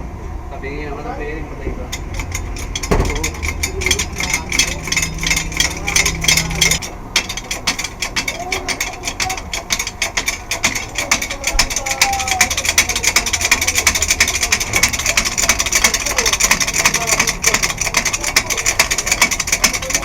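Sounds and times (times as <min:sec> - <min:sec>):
ratchet wrench clicking: 0:01.9 - 0:20.0.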